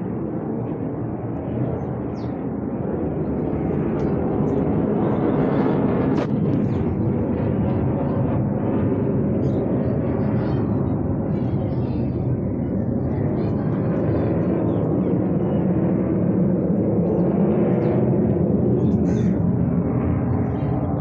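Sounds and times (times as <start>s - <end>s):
aeroplane engine drone: 0.0s - 21.0s.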